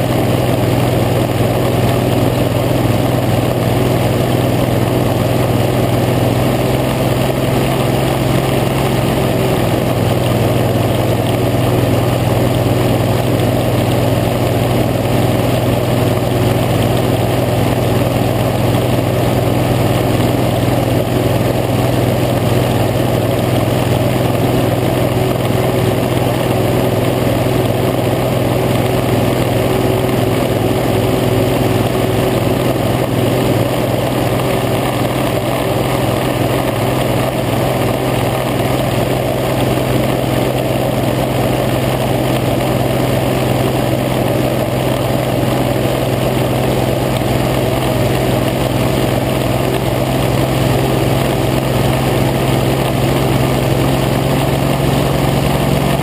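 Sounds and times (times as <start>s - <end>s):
hovercraft engine drone: 0.0s - 56.0s.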